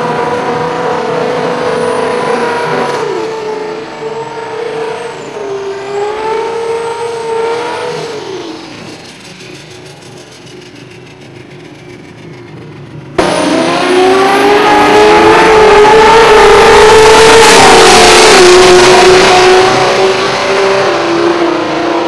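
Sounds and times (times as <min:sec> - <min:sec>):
drag car engines accelerating: 0:00.0 - 0:22.0.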